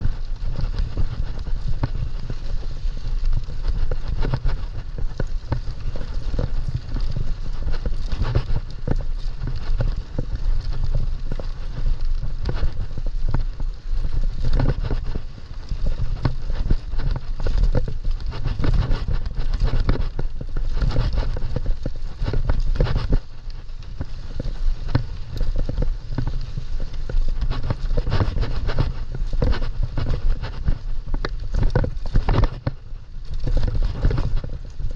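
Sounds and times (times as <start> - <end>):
bike clattering and rattling: 0.0 - 34.9
bike rumbling over rough trail: 0.0 - 34.9.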